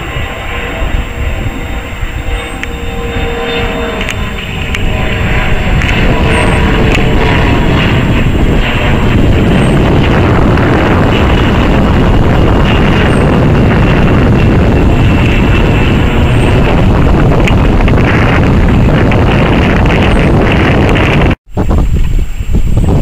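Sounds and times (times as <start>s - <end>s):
jet passing overhead: 0.0s - 23.0s.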